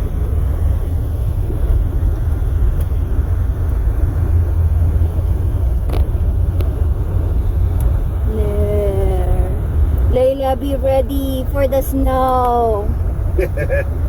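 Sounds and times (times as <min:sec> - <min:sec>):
car cabin engine rumble: 0:00.0 - 0:14.0.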